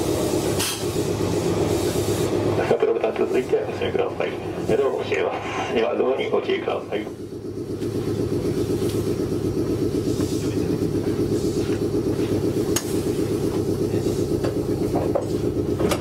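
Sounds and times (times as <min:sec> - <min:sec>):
electric train running rumble: 0:00.0 - 0:16.0.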